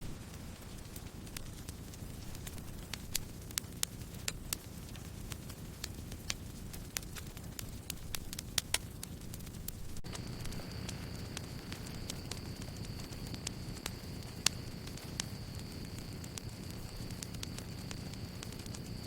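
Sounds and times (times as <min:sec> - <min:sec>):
burning wood crackling and popping: 0:00.0 - 0:19.0
flames rumbling: 0:00.0 - 0:19.0.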